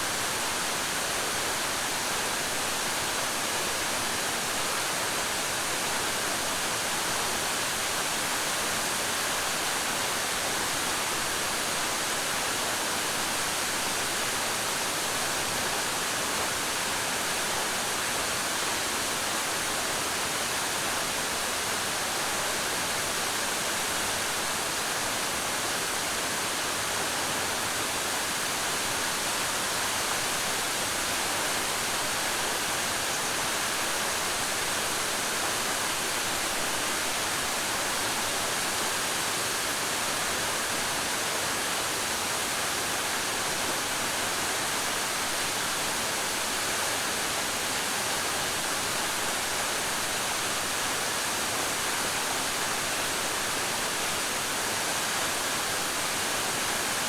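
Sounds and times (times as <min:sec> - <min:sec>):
waterfall rushing and splashing: 0:00.1 - 0:57.0.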